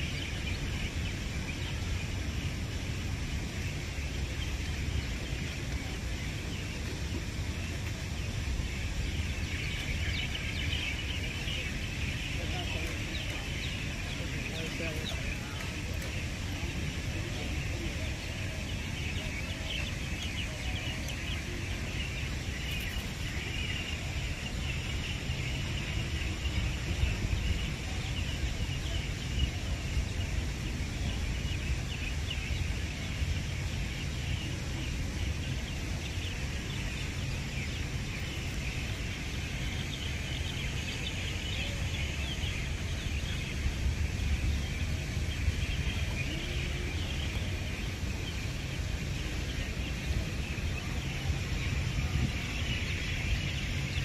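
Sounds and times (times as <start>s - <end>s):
dense high chatter: 0.0s - 54.0s.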